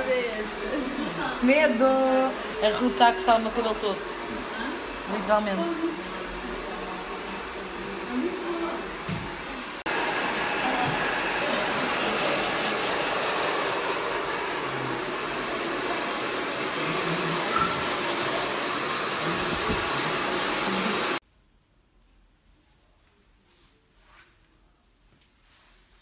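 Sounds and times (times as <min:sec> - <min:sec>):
hair dryers blowing: 0:00.0 - 0:21.2.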